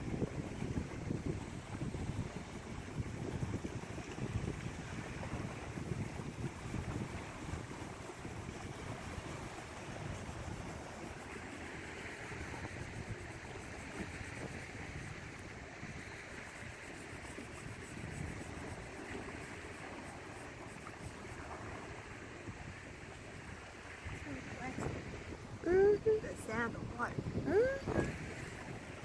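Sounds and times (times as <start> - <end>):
small waves splashing: 0.0 - 29.0
wind rumbling on microphone: 0.0 - 29.0.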